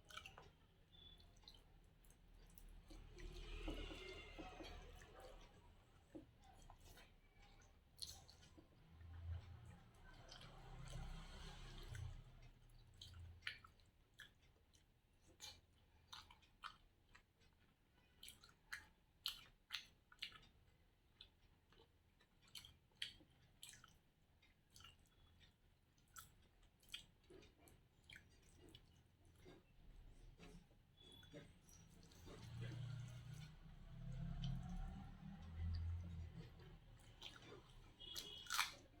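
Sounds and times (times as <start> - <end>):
chewing mouth clicks and smacks: 0.0 - 4.6, 6.2 - 39.0.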